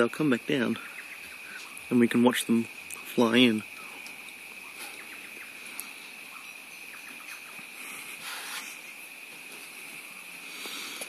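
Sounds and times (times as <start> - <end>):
faint chirps and ticks: 0.0 - 11.0
high-pitched insect drone: 0.0 - 11.0.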